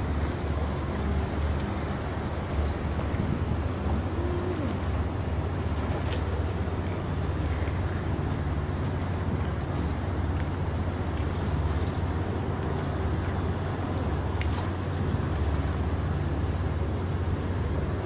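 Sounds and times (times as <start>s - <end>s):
low city rumble: 0.0s - 18.0s.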